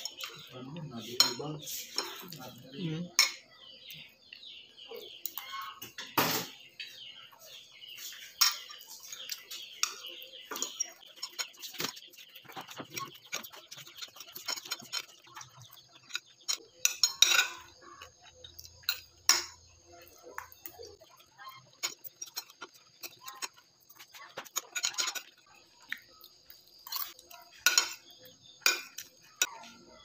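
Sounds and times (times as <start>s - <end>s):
utensils clinking on dishes: 0.0s - 3.5s, 8.0s - 25.6s, 26.6s - 30.0s.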